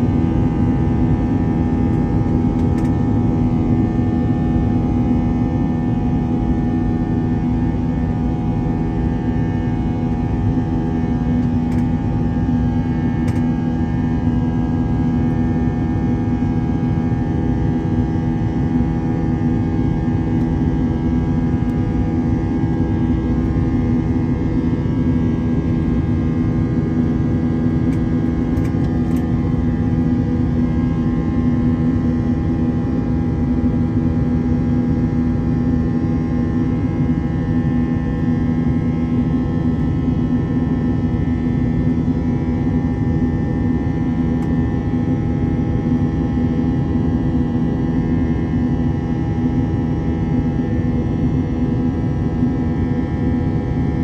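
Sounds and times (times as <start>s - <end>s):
jet engines rushing in cabin: 0.0s - 52.2s.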